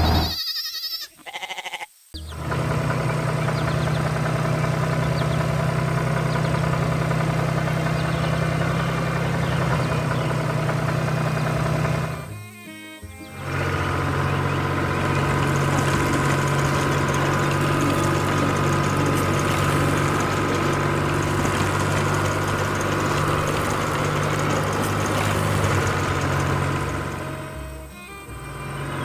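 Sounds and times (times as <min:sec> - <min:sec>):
heavy vehicle engine running: 0:00.0 - 0:00.3, 0:02.2 - 0:29.0.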